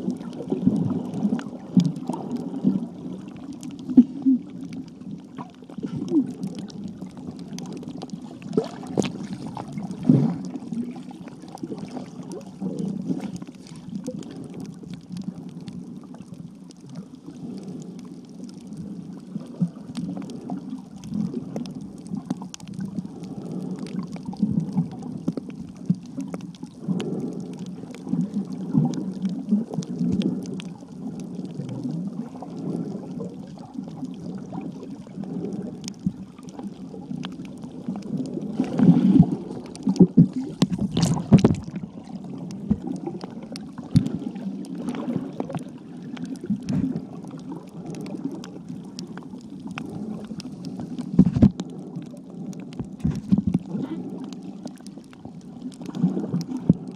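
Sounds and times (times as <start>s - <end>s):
water gurgling underwater: 0.0s - 56.9s.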